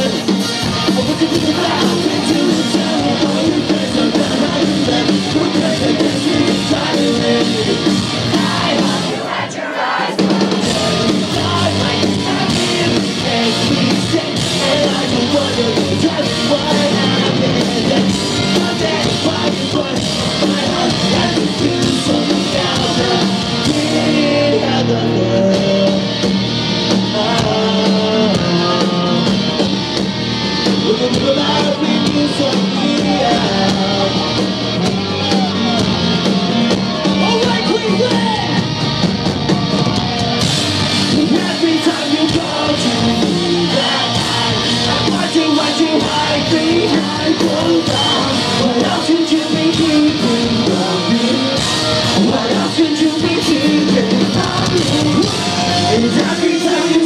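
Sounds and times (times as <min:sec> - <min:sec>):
person singing: 0:00.0 - 0:09.3, 0:10.1 - 0:29.8, 0:30.6 - 0:36.1, 0:40.9 - 0:57.0
distorted electric guitars: 0:00.0 - 0:57.0
drum kit: 0:00.0 - 0:57.0
live pop-punk band playing: 0:00.0 - 0:57.0.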